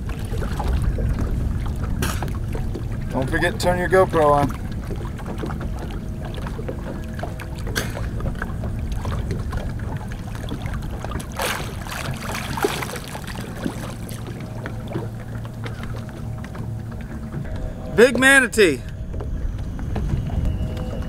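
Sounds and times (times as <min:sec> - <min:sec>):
low steady hum: 0:00.0 - 0:21.0
water splashing and lapping: 0:00.0 - 0:21.0.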